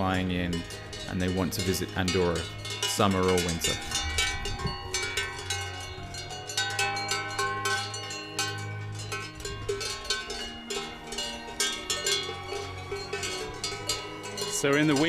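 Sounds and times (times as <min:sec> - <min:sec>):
cowbells clanking: 0:00.0 - 0:15.0.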